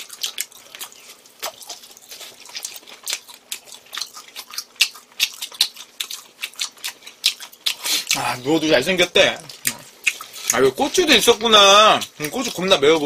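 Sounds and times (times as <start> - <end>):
chewing and mouth smacking: 0.0 - 8.3, 9.3 - 13.0.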